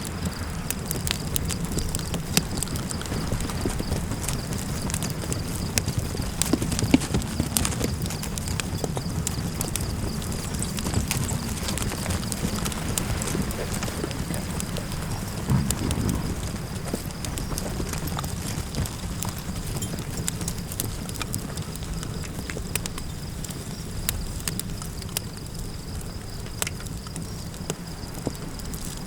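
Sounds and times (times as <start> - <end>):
campfire crackling and popping: 0.0 - 29.0
low rumble of fire and wind: 0.0 - 29.0.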